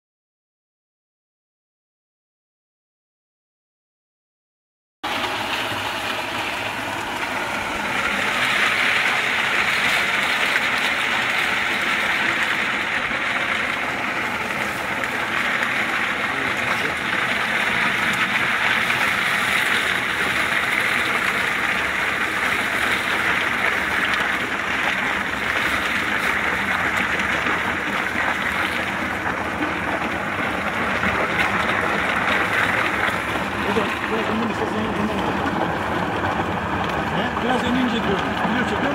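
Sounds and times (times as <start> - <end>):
walnut peeling machine churning: 5.1 - 38.9.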